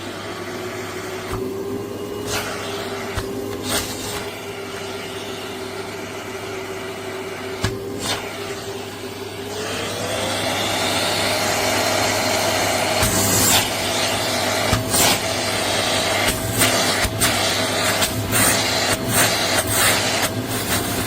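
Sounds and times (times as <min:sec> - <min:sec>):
vacuum motor humming: 0:00.0 - 0:21.0.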